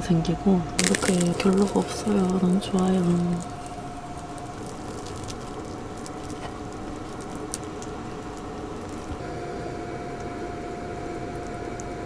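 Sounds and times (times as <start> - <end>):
machine hum with high whine: 0.0 - 12.0.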